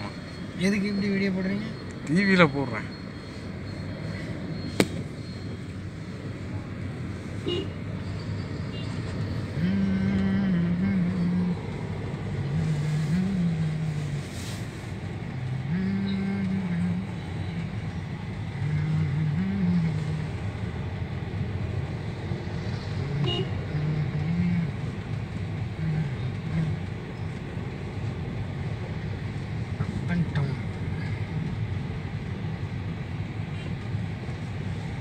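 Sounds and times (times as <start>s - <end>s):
car engine and road hum: 0.0s - 35.0s.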